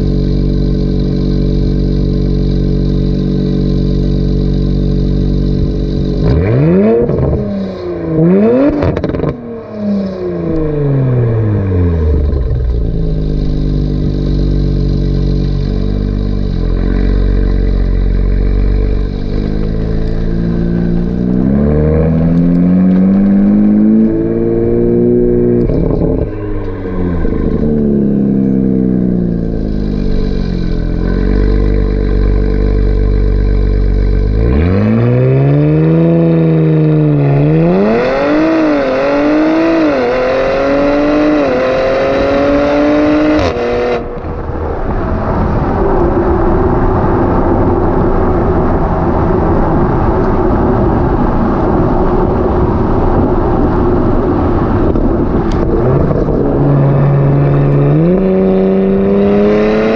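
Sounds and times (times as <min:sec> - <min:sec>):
car accelerating away: 0:00.0 - 0:59.9
car engine revving and idling: 0:00.0 - 0:59.9.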